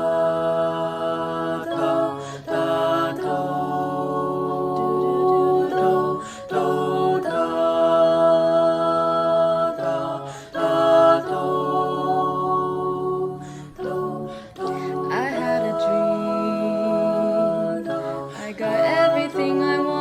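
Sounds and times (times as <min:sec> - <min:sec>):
vocal ensemble singing chords: 0:00.0 - 0:20.0.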